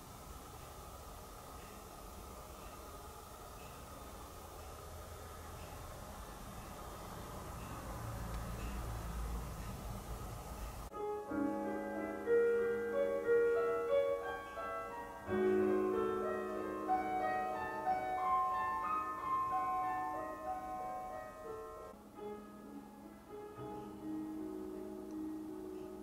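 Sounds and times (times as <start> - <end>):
hiss and low hum: 0.0 - 26.0
piano chords and melody: 0.0 - 26.0.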